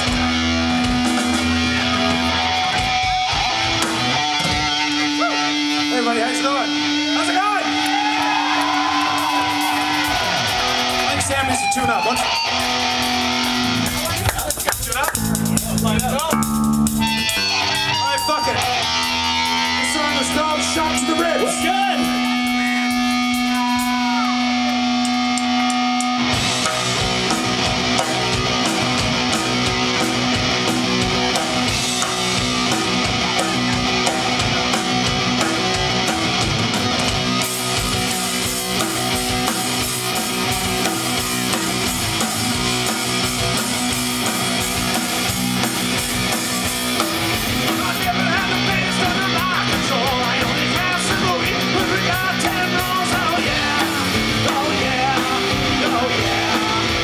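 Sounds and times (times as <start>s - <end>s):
punk rock band playing: 0.0s - 57.0s.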